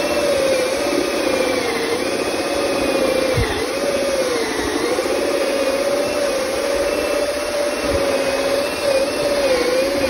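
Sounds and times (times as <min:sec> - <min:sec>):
cordless drill boring through siding: 0:00.0 - 0:10.0.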